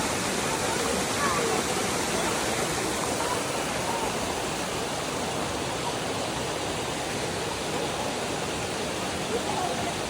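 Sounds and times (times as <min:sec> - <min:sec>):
running water rushing: 0:00.0 - 0:10.0.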